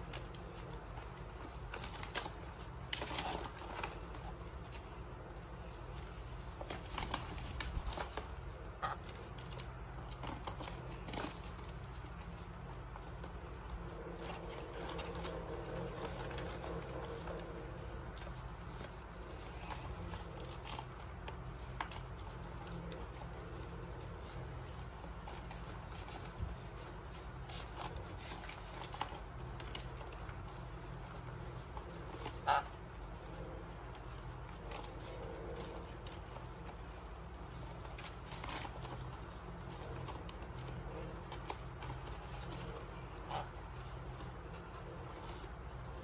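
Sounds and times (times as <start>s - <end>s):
faint clicks and scratches: 0.0s - 46.0s
steady low hum: 0.0s - 46.0s.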